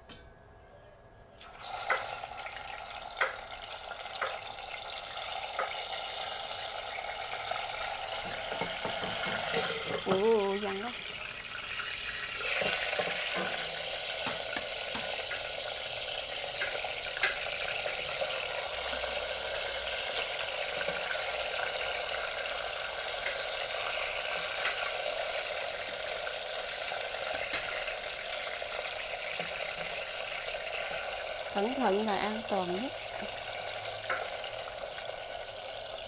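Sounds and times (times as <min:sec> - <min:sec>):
food sizzling in hot oil: 0:01.4 - 0:36.0
oil popping and crackling: 0:01.4 - 0:36.0.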